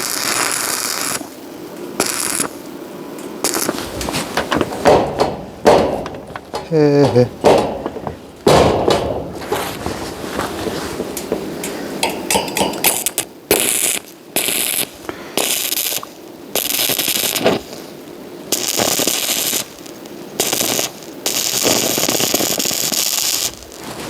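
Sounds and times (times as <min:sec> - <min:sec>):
arc welding crackling: 0:00.0 - 0:24.0.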